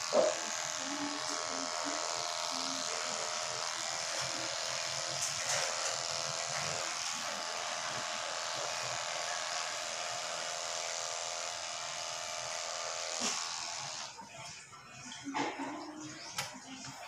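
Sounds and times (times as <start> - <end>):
electric clipper buzzing: 0.0 - 14.2.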